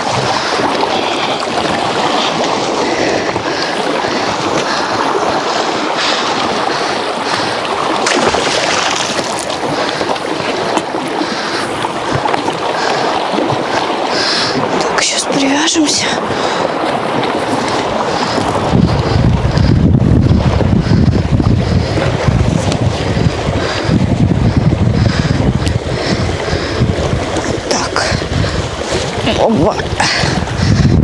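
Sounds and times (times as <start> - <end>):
water slapping against boat: 0.0 - 31.0
wind buffeting microphone: 0.0 - 31.0.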